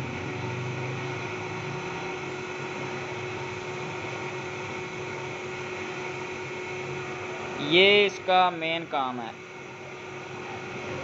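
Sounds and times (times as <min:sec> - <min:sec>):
fan hum and hiss: 0:00.0 - 0:11.0.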